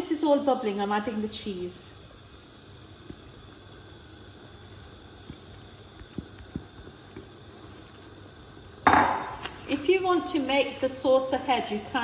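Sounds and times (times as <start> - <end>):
sauce bubbling in a pan: 0.1 - 10.8.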